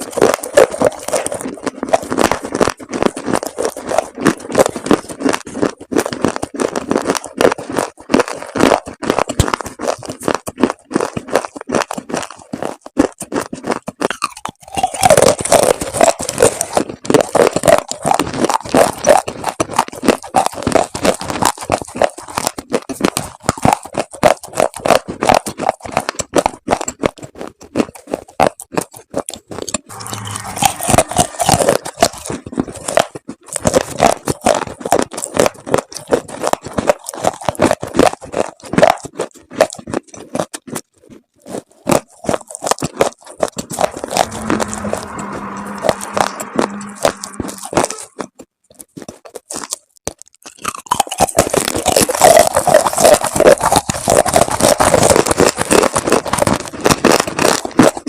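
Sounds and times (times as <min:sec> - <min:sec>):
chalk paste crunching: 0:00.0 - 0:58.0.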